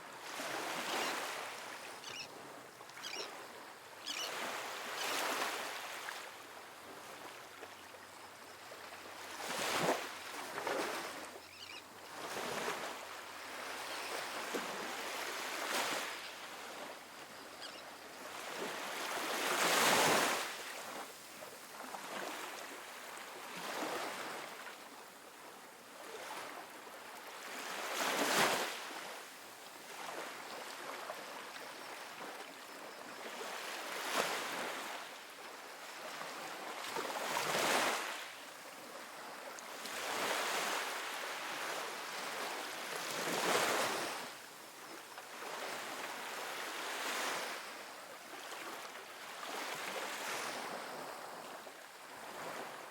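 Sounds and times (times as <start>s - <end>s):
ocean waves breaking on beach: 0.0s - 7.7s, 8.5s - 11.4s, 12.1s - 17.4s, 18.0s - 52.9s.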